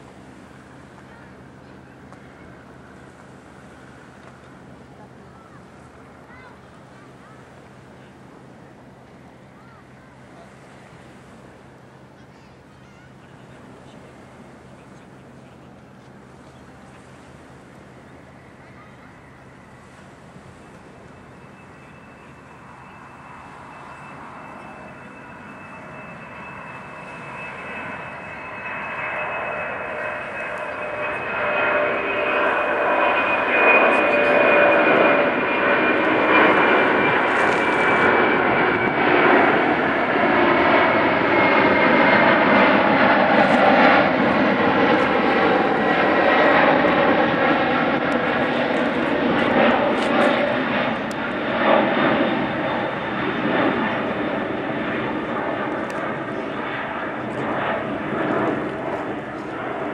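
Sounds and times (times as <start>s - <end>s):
jet engines loud rumble and whine: 0.0s - 59.9s.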